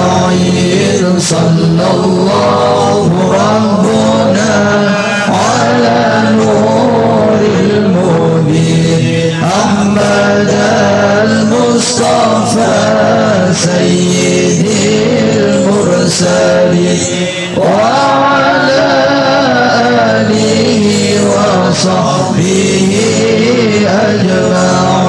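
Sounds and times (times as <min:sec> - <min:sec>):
man chanting devotional song: 0:00.0 - 0:25.0.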